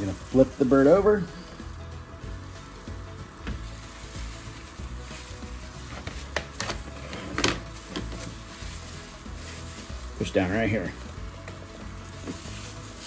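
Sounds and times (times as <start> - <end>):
plastic gloves crinkling: 0.0 - 13.0
quiet background music: 0.0 - 13.0.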